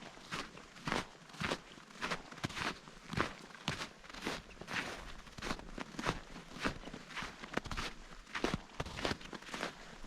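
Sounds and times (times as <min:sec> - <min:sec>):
boots stepping in snow: 0:00.0 - 0:10.0.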